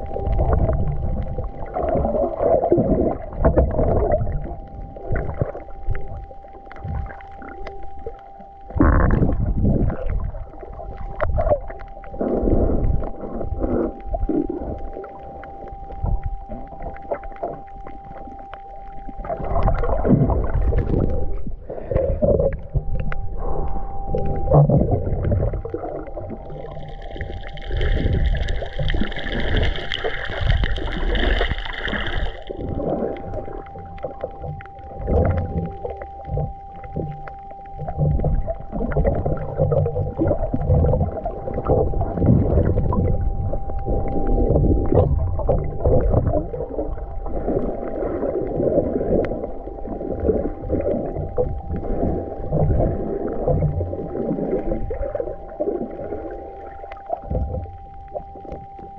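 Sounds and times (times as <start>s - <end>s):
faint steady whine: 0.0s - 58.9s
muffled underwater sloshing: 0.0s - 58.9s.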